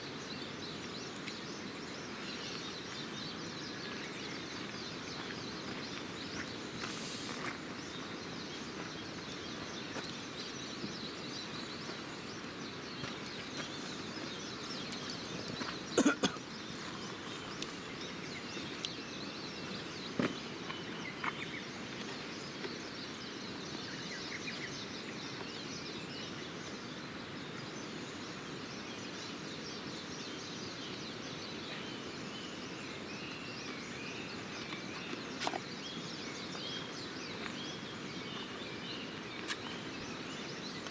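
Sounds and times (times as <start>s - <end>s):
birds chirping faintly: 0.0s - 40.9s
steady outdoor hiss: 0.0s - 40.9s.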